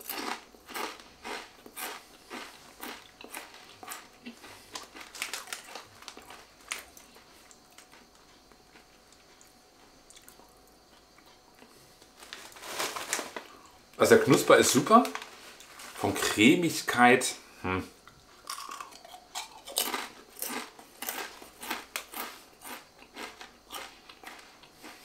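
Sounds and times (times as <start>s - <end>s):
chewing crisp potato chips: 0.0s - 13.8s, 18.1s - 25.0s.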